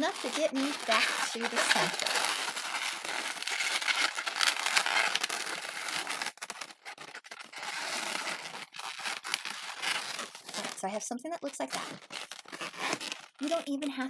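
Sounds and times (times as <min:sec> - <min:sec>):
balloon rubber rubbing: 0:00.0 - 0:14.0.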